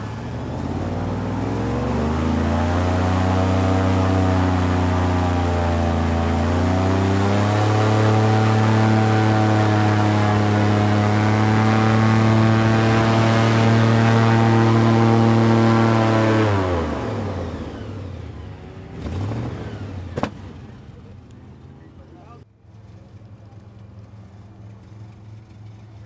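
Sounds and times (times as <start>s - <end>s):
airboat engine and propeller: 0.0s - 26.0s.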